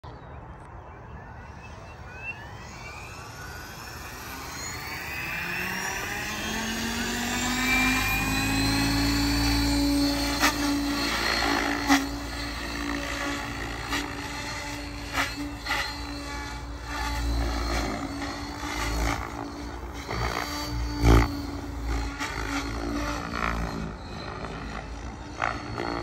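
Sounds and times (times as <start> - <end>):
rc helicopter motor whine: 0.8 - 26.0
rotor blade noise: 1.3 - 26.0.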